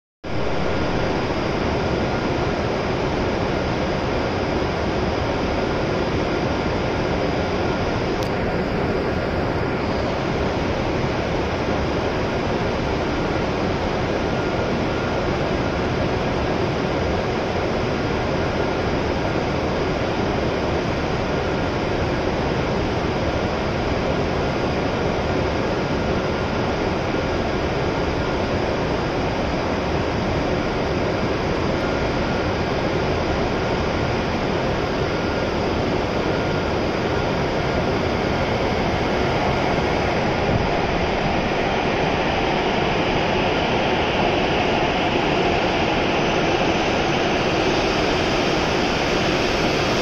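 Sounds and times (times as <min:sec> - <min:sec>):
station platform hiss and hum: 0:00.3 - 0:50.0.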